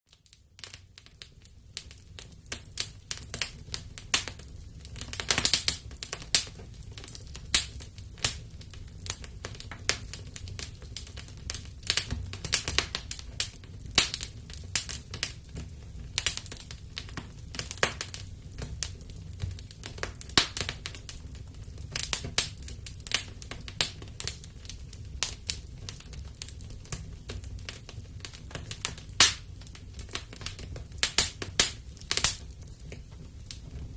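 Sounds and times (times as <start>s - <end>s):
fire crackling and popping: 0.1s - 33.9s
low rumble of flame: 0.1s - 33.9s.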